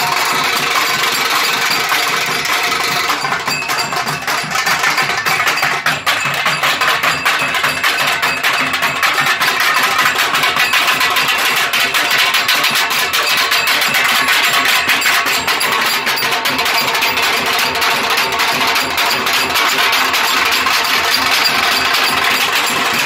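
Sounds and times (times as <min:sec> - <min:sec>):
drums beaten in fast rhythm: 0:00.0 - 0:23.0.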